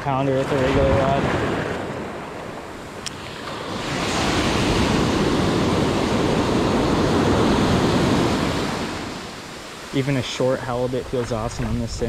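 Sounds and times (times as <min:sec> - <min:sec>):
wave breaking on beach: 0:00.1 - 0:11.4.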